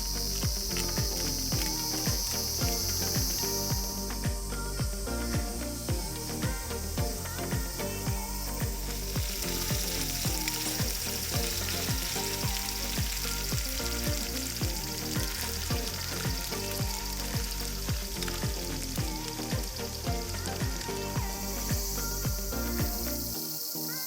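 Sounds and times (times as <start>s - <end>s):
background music with steady beat: 0.0s - 24.0s
food sizzling in a pan: 0.0s - 24.0s.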